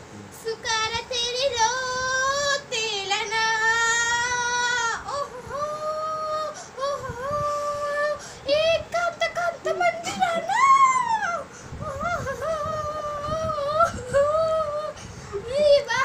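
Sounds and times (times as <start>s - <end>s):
girl singing unaccompanied: 0.3s - 16.0s.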